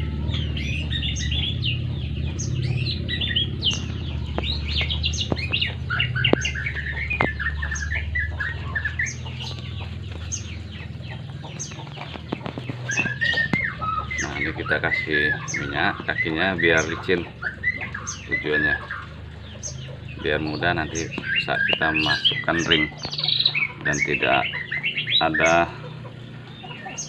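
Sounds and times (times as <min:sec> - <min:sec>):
steady low hum: 0:00.0 - 0:26.9
nestlings chirping: 0:00.0 - 0:27.0.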